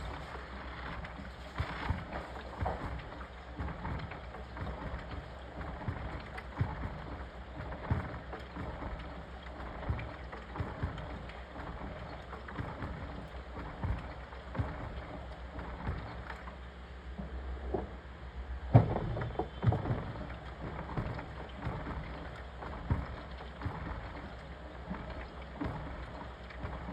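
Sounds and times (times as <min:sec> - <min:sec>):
soft thuds in washing drum: 0:00.0 - 0:18.0, 0:18.6 - 0:26.9
washing machine sloshing: 0:00.0 - 0:26.9.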